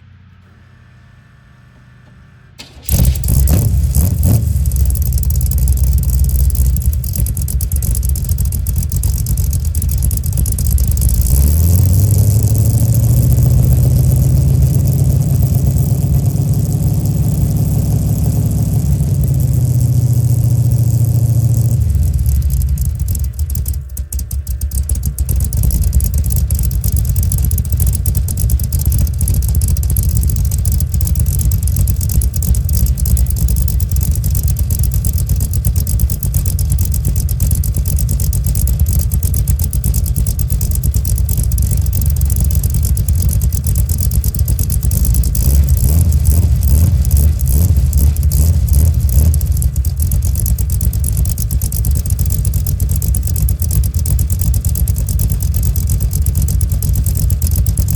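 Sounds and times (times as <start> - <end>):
deep engine exhaust rumble: 0.0 - 57.9.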